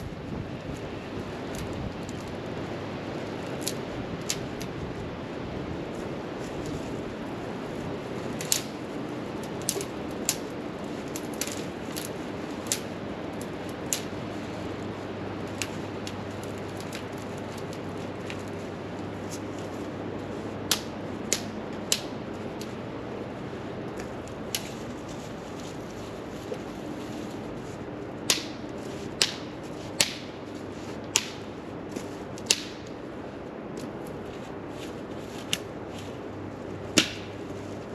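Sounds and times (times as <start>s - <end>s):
steady hiss of fire: 0.0s - 37.9s
wood fire crackling: 0.0s - 37.9s.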